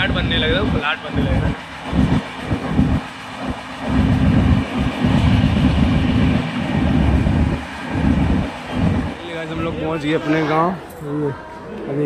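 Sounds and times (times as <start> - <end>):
wind buffeting microphone: 0.0 - 10.9
train running on track: 0.0 - 12.0.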